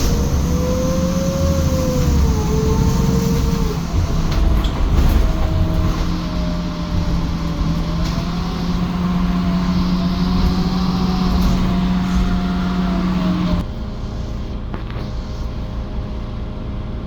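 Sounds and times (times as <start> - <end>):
bus engine hum: 0.0 - 17.0.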